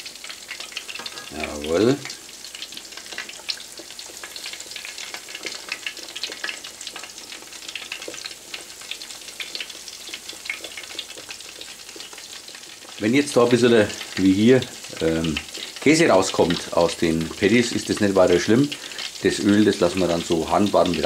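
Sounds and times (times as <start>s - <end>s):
hot oil sizzling and crackling: 0.0s - 21.0s.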